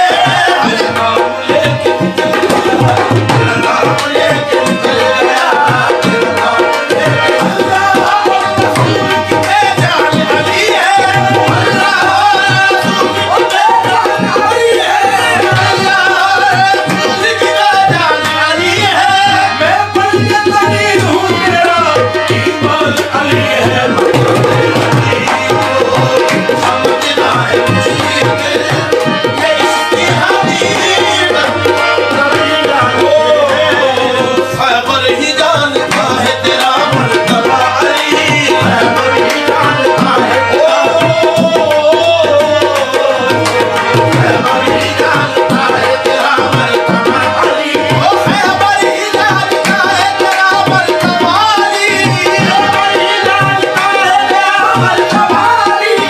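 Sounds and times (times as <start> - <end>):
tabla drumming: 0.0 - 56.0.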